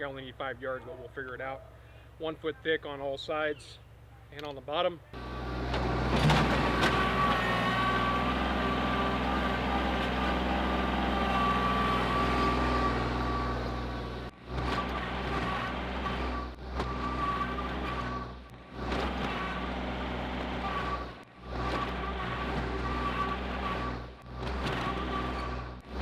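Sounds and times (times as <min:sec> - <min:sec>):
heavy machinery engine: 0:05.2 - 0:26.0.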